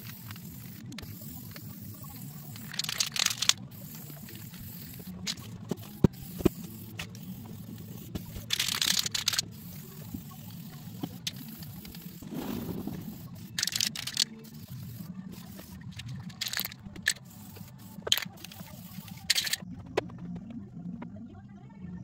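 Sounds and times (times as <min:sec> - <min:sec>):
spray can hissing: 0:00.0 - 0:19.6.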